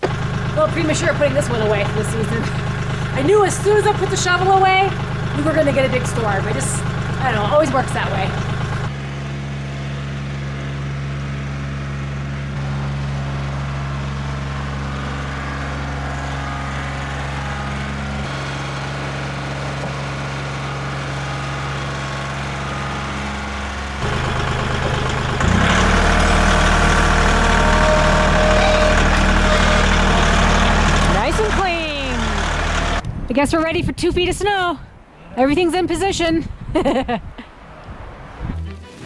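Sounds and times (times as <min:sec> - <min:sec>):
engine idling: 0:00.0 - 0:09.0, 0:10.2 - 0:33.1.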